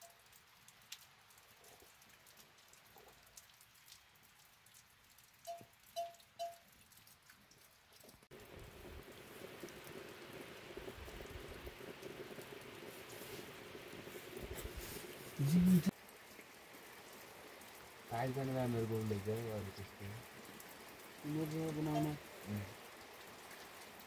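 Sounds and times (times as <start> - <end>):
drips ticking: 0.0 - 12.9, 15.6 - 24.0
light rain: 0.0 - 24.0.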